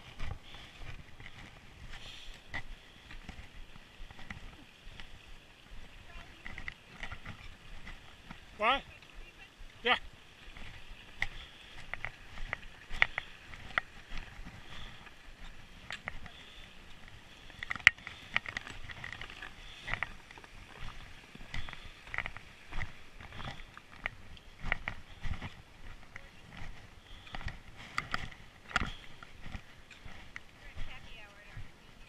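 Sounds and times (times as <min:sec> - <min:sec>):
boots crunching on snow: 0:00.0 - 0:08.9, 0:09.8 - 0:32.0
trekking pole tips tapping: 0:00.2 - 0:05.1, 0:05.8 - 0:08.4, 0:10.5 - 0:31.6.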